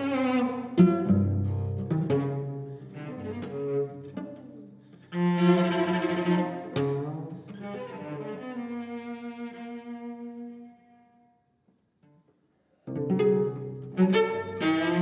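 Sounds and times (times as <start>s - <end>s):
solo cello bowed: 0.0s - 15.0s.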